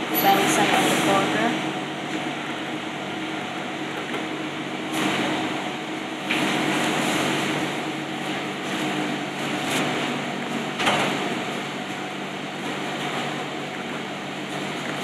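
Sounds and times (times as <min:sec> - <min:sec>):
ventilation hum: 0:00.0 - 0:15.0.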